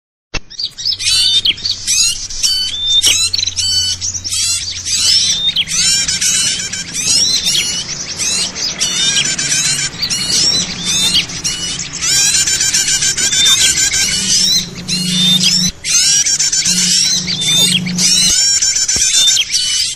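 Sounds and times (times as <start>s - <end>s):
small birds chirping and twittering: 0.4s - 19.9s.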